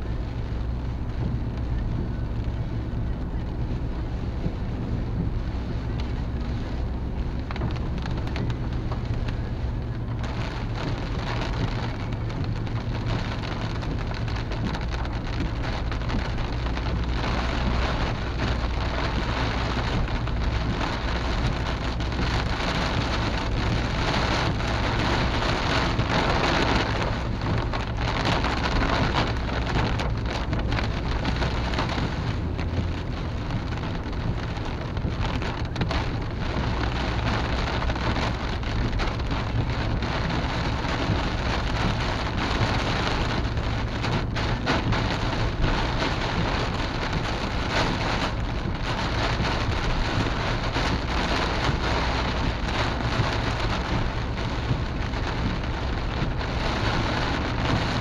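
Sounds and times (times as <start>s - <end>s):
car hum on road: 0.0s - 58.0s
rain pattering on car roof: 0.0s - 58.0s.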